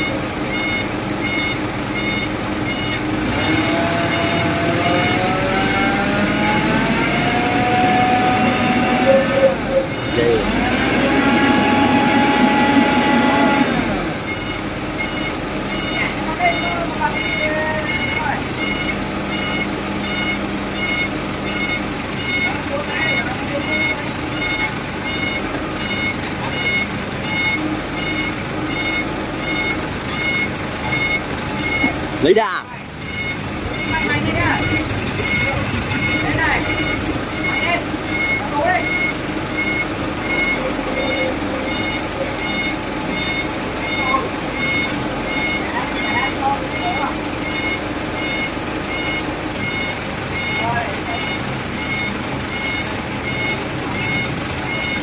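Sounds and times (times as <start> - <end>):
truck engine revving: 0.0 - 55.0
truck reversing alarm beeping: 0.0 - 55.0.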